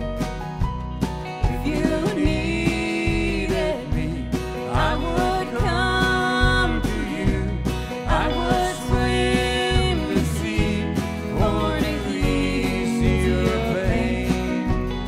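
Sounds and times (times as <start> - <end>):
live country band playing: 0.0 - 15.0.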